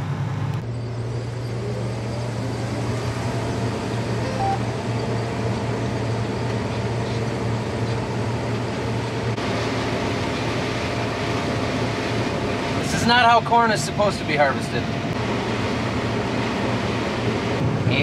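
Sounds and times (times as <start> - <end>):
combine harvester droning: 0.0 - 18.0.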